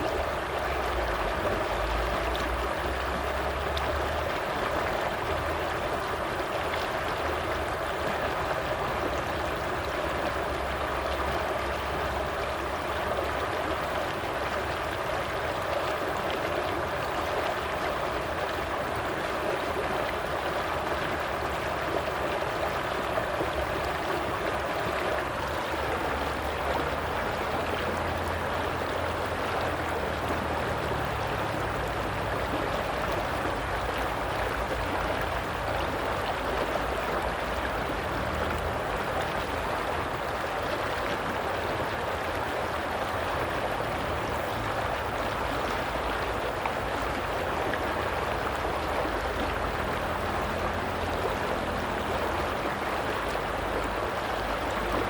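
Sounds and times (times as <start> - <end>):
flowing water gurgling: 0.0 - 55.0.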